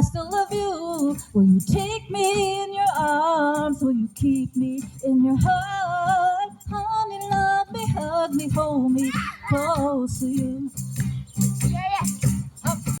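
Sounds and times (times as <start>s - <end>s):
woman singing a slow love song: 0.0s - 11.0s.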